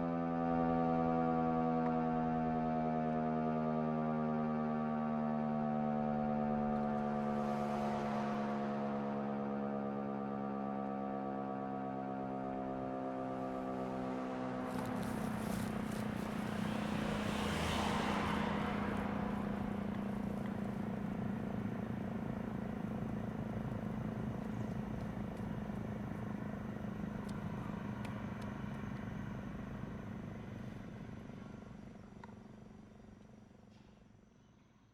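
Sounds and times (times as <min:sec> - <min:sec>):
siren low steady tone: 0:00.0 - 0:32.1.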